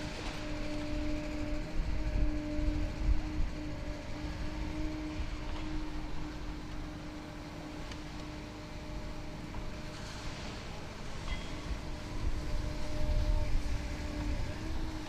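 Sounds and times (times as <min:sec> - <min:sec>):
shredding machinery rumbling: 0:00.0 - 0:15.0.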